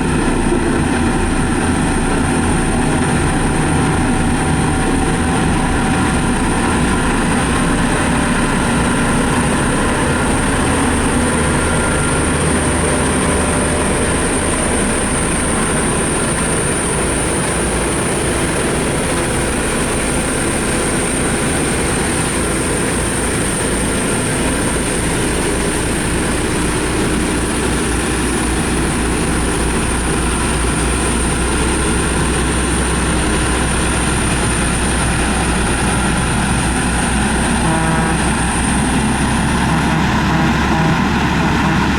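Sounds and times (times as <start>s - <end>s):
heavy machinery diesel engines: 0.0s - 41.9s
steady high whine: 0.0s - 41.9s.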